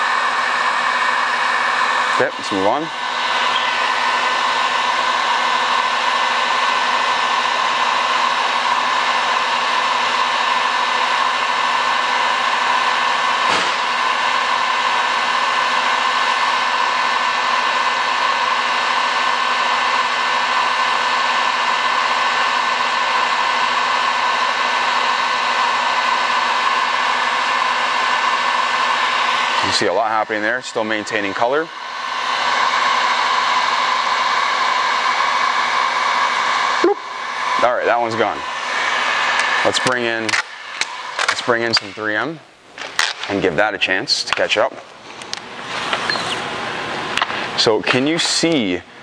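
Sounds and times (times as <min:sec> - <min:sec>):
heat gun fan blowing: 0:00.0 - 0:49.0.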